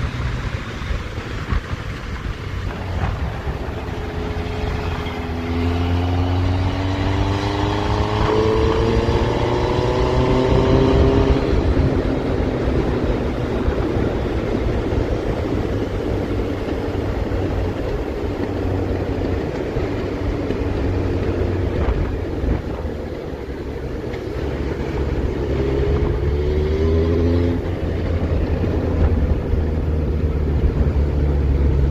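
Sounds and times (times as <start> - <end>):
motorcycle engine running: 0.0 - 31.9
wind and road noise: 0.0 - 31.9.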